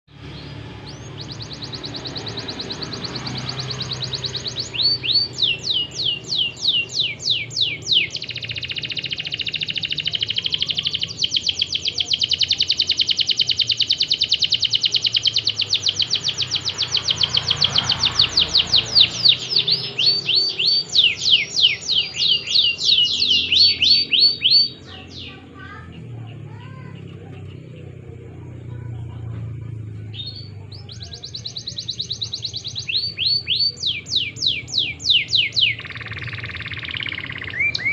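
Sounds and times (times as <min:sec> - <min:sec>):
canary singing trills: 0:00.1 - 0:37.9.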